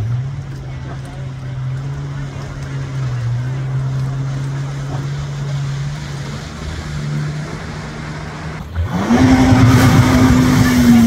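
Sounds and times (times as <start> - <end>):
jet ski engine revving: 0.0 - 11.0.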